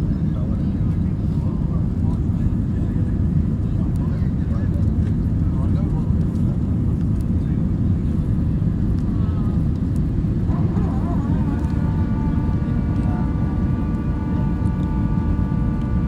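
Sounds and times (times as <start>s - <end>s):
jet engine and airflow noise: 0.0s - 16.0s.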